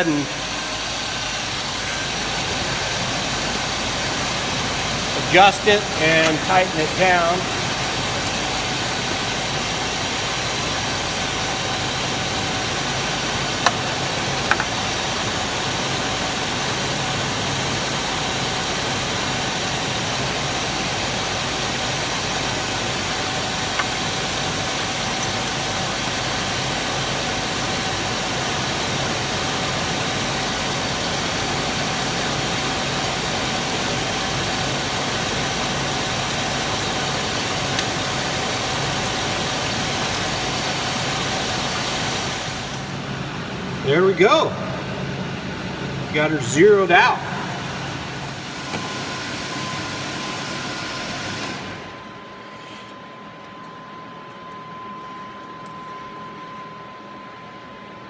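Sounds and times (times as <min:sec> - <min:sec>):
car engine idling: 0:00.0 - 0:52.1.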